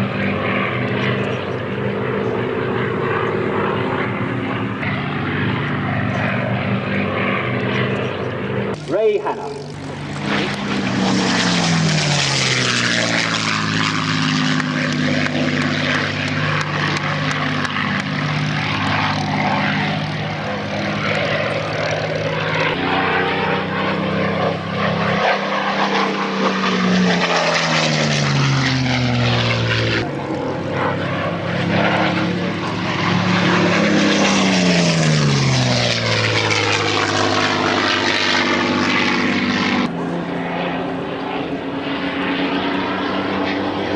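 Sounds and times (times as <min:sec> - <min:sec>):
propeller aircraft engine passing: 0:00.0 - 0:43.9.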